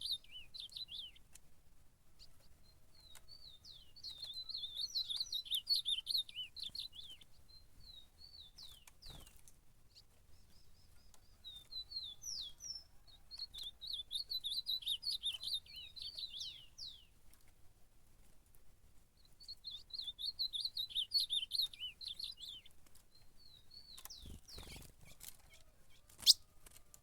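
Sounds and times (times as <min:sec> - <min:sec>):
bird warbling song: 0:00.0 - 0:01.2, 0:02.2 - 0:17.2, 0:19.2 - 0:26.6.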